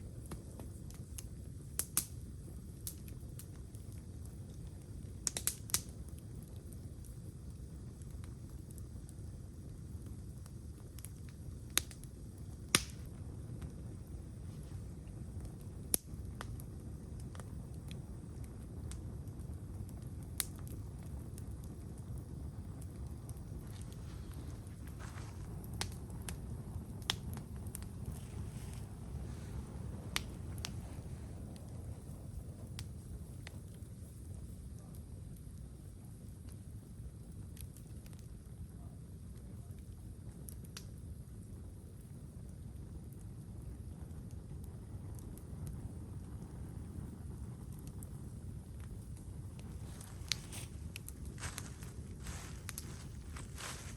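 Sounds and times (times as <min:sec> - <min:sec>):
campfire crackling and popping: 0:00.0 - 0:53.9
low steady rumble: 0:00.0 - 0:53.9.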